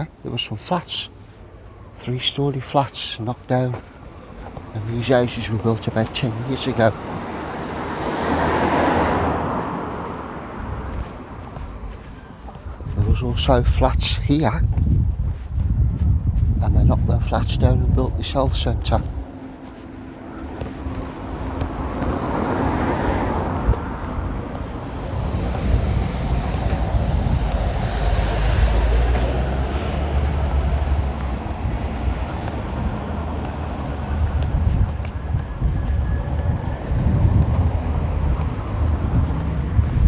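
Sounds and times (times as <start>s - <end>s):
road traffic going by: 0.0s - 40.0s
wind rumble on microphone: 3.8s - 40.0s.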